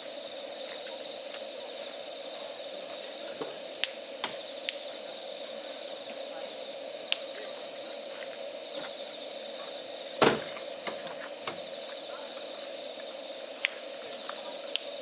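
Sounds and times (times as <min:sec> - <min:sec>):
insect trilling: 0:00.0 - 0:15.0
campfire crackling: 0:00.1 - 0:15.0.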